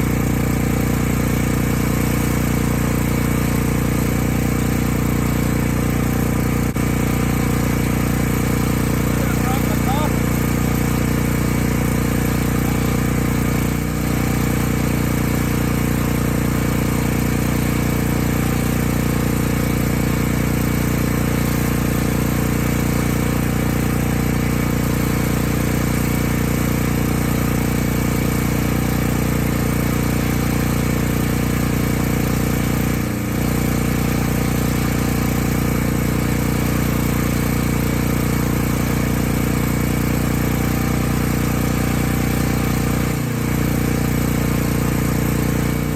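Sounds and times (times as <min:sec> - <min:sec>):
generator engine running: 0:00.0 - 0:45.9.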